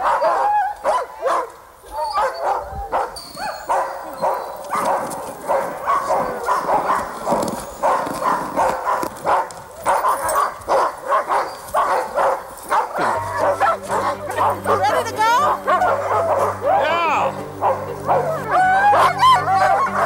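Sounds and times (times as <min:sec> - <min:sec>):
sled dogs barking: 0:00.0 - 0:20.0.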